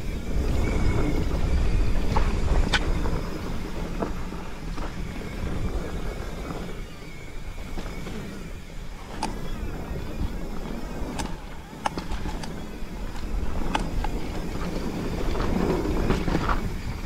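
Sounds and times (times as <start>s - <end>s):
bike clicks and rattles: 0.0s - 17.0s
bike tyre noise on dirt: 0.0s - 17.0s
wind on microphone: 0.0s - 17.0s.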